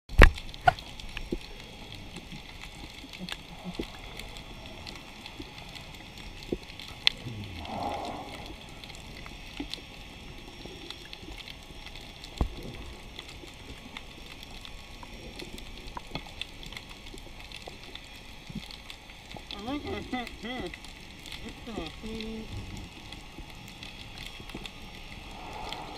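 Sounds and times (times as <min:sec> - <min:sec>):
scuba regulator bubbles: 0:00.1 - 0:25.9
underwater crackle of clicks: 0:00.1 - 0:25.9.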